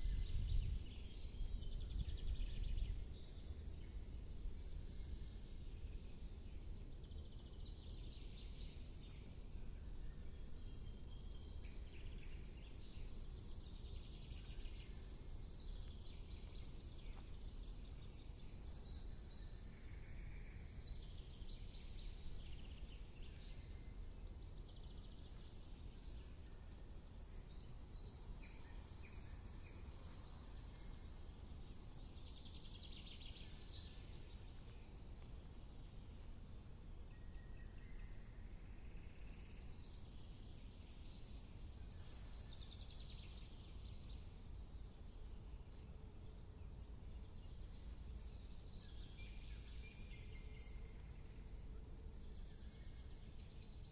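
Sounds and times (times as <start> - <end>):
songbirds chirping and trilling: 0.0 - 53.9.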